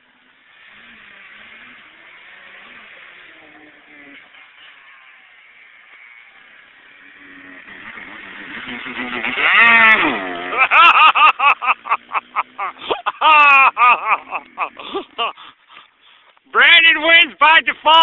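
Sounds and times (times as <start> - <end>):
dirt bike engine passing: 0.0 - 15.8
dirt bike short revs: 0.0 - 15.8.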